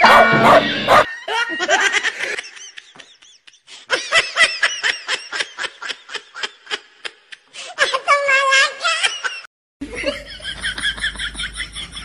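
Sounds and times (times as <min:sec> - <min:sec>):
people laughing: 0:00.8 - 0:08.0, 0:08.8 - 0:12.0.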